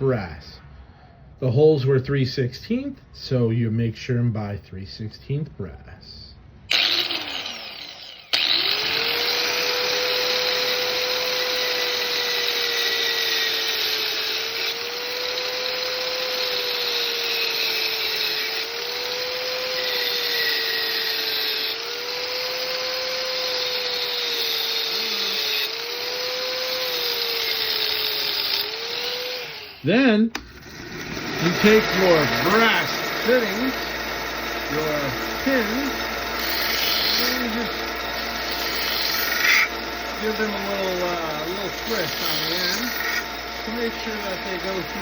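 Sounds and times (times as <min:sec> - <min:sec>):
power tool motor whining: 0:06.7 - 0:45.0.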